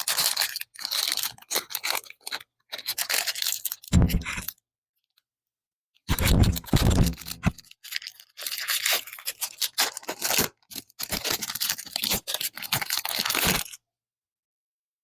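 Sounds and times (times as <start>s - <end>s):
foil wrapper crinkling and tearing: 0.0s - 4.6s, 6.1s - 13.8s.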